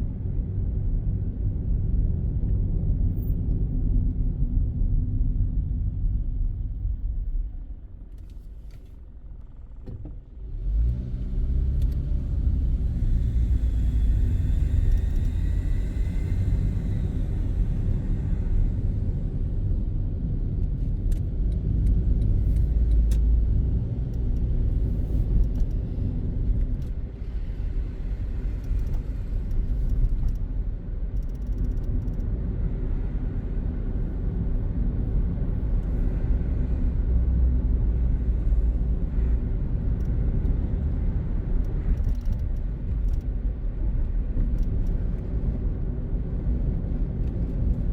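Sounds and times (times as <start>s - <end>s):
car engine rumble: 0.0s - 47.9s
road noise: 6.2s - 47.9s.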